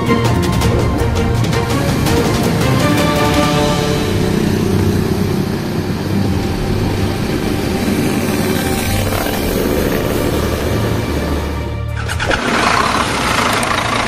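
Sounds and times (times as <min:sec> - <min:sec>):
road noise: 0:00.0 - 0:14.0
motorbikes riding past: 0:00.8 - 0:14.0.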